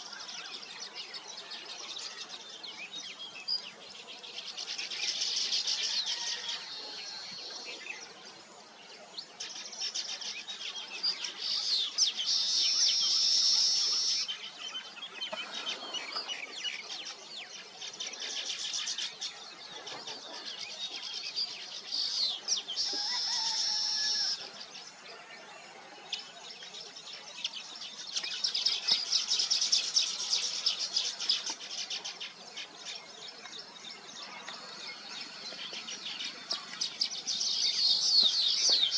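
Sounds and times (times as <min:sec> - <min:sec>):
weaver birds chattering and singing: 0:00.0 - 0:38.9.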